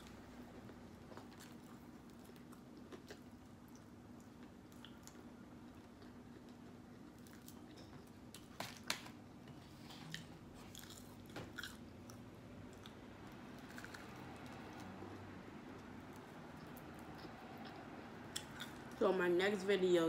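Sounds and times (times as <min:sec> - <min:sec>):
person chewing fried chicken: 0:00.6 - 0:08.5, 0:09.7 - 0:18.9.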